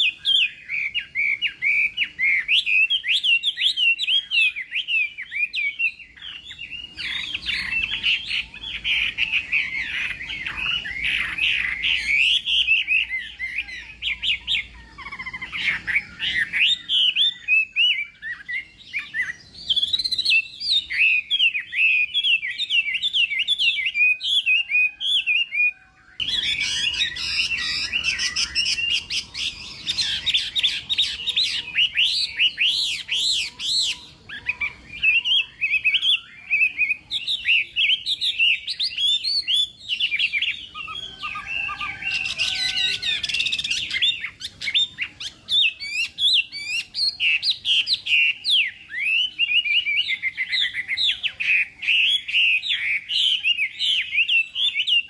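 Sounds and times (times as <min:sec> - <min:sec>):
bird singing whistled notes: 0:00.0 - 0:55.0.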